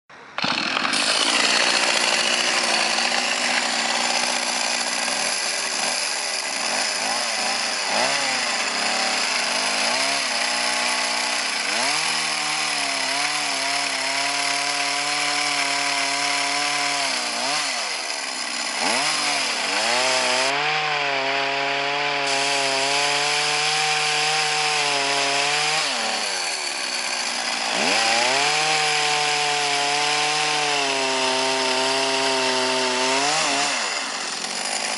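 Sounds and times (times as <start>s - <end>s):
chainsaw engine driving an auger: 0.2s - 34.9s.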